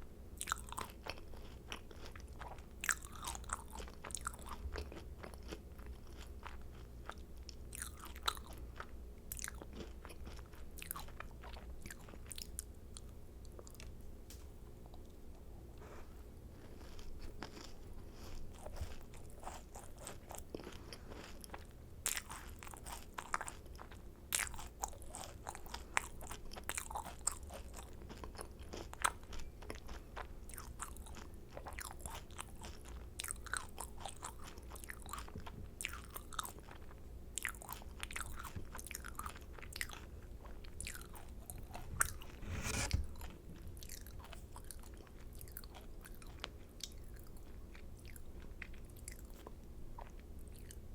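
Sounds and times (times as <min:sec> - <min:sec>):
chewing crunchy macarons: 0:00.4 - 0:14.0, 0:16.2 - 0:50.9.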